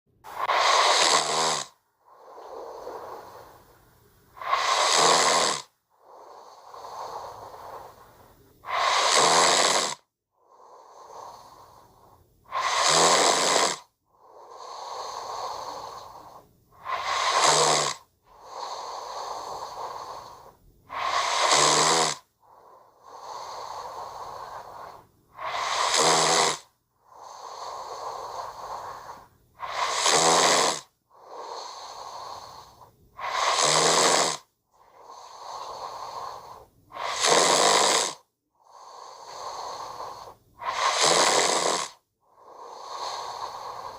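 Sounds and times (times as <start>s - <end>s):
loud snore: 0.2s - 43.9s
soft long breath: 0.2s - 43.9s.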